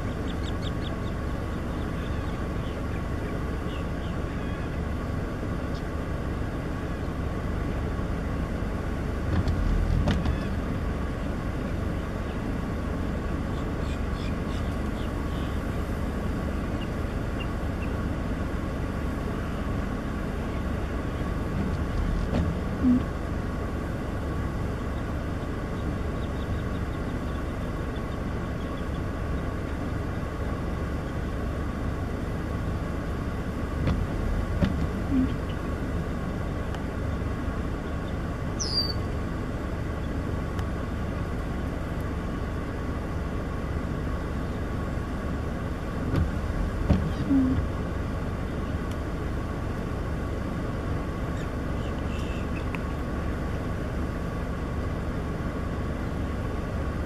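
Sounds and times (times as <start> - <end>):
outdoor background rumble: 0.0 - 57.0.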